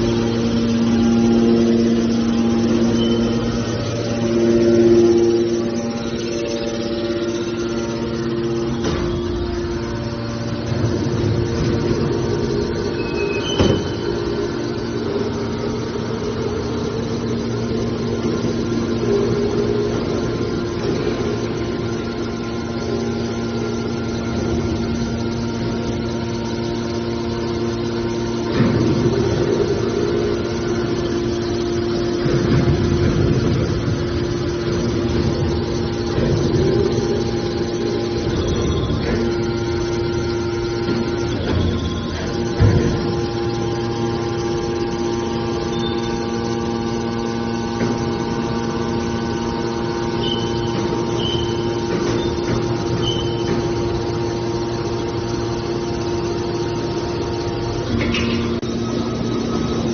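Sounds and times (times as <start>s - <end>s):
hydraulic baler droning: 0.0s - 59.9s
rough machine noise: 0.0s - 59.9s.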